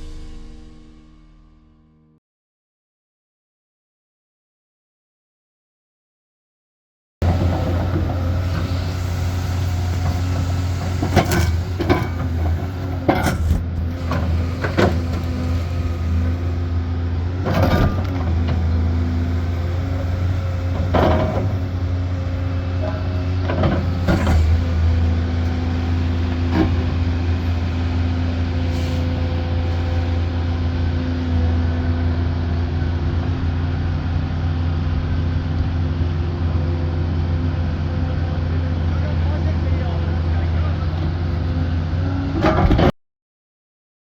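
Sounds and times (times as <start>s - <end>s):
diesel engine running: 7.2s - 42.5s.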